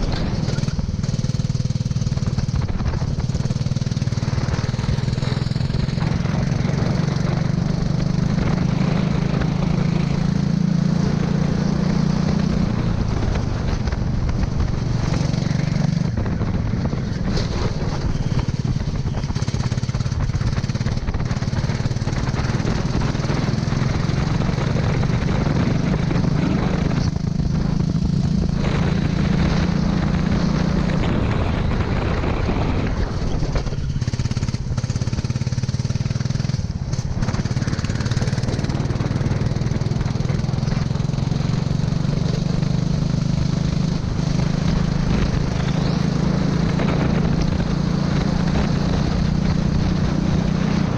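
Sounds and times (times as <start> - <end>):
racing kart engine running hard: 0.0 - 50.9.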